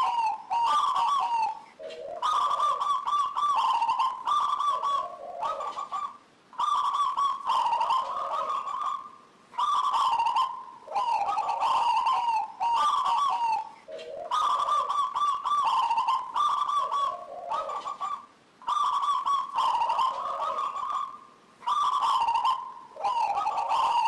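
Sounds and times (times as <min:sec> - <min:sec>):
dove cooing: 0:00.0 - 0:24.0.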